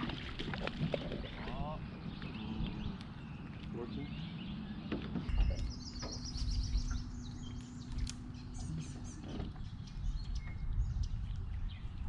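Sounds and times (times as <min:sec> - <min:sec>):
low rumble: 0:00.0 - 0:12.0
steady low hum: 0:00.0 - 0:12.0
birds chirping and trilling: 0:00.1 - 0:12.0.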